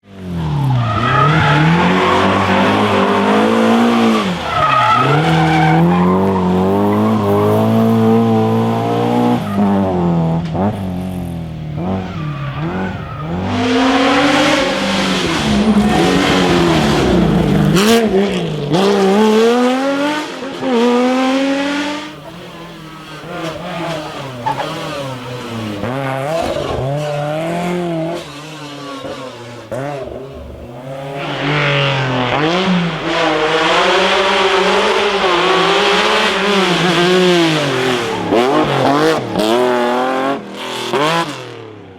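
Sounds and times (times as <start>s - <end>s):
rally car engine at full throttle: 0.0s - 41.9s.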